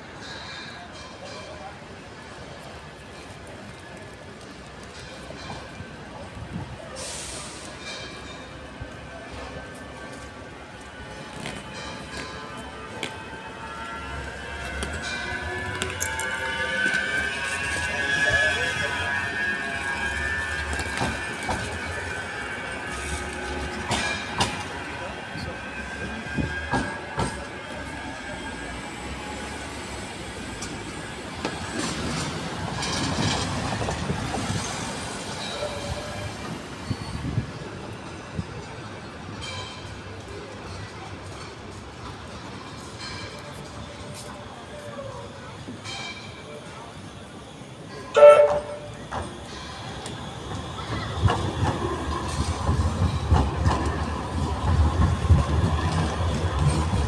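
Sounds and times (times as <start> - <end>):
city street noise: 0.0 - 57.0
tram running on rails: 0.0 - 57.0.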